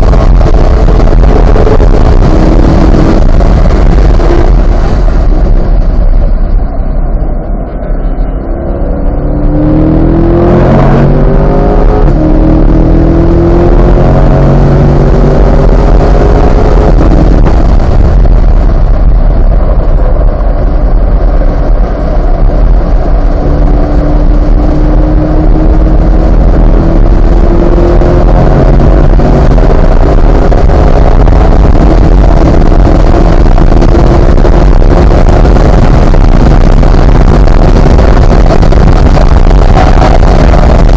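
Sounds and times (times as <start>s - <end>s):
car engine at full throttle: 0.0s - 40.9s
wind and tyre noise: 0.0s - 40.9s.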